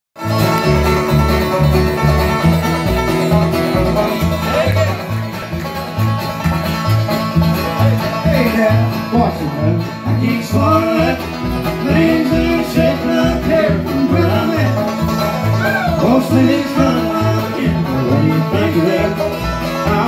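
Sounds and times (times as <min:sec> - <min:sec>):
bluegrass band playing: 0:00.2 - 0:20.0
upright bass steady beat: 0:00.2 - 0:20.0.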